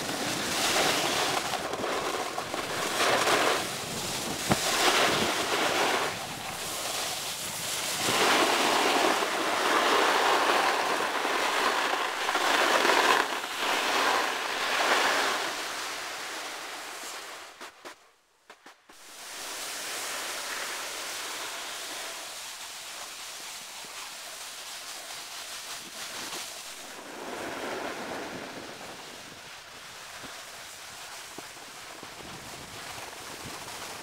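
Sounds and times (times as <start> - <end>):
snowboard scraping over snow: 0.0 - 17.9, 18.9 - 34.0.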